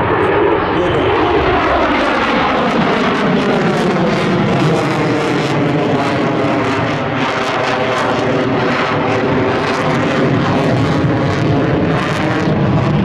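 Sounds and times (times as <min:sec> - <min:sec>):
jet passing overhead: 0:00.0 - 0:13.0.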